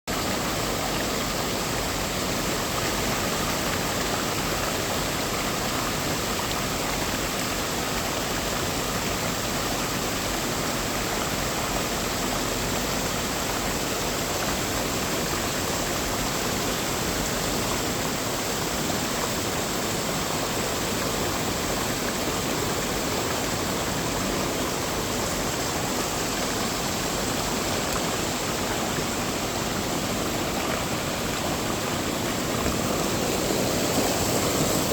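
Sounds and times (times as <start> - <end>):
stream water rushing over rocks: 0.1 - 34.9.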